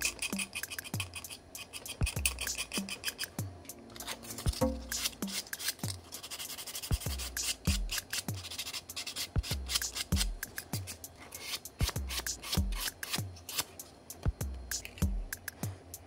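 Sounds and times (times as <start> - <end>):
sandpaper rasping on plastic: 0.0 - 3.4, 4.0 - 13.8
background music with deep drum beat: 0.0 - 6.2, 6.8 - 8.7, 9.3 - 16.0.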